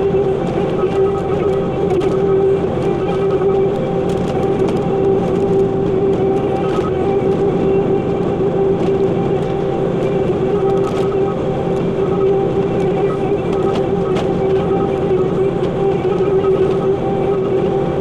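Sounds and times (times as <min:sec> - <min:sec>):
track loader engine whine: 0:00.0 - 0:18.0.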